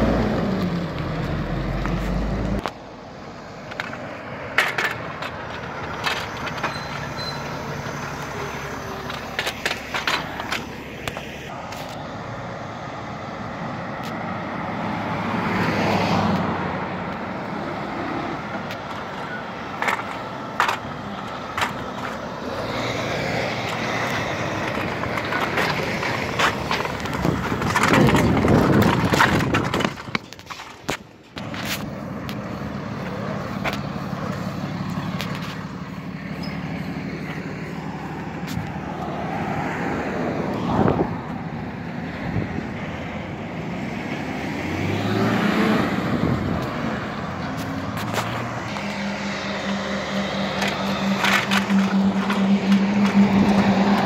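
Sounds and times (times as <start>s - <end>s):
road traffic passing: 0.0s - 54.0s
truck passing: 0.0s - 54.0s.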